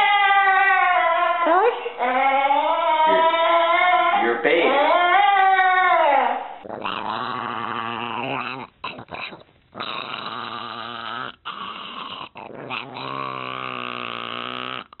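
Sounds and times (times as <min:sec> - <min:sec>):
dog growl-howls: 0:00.0 - 0:15.0.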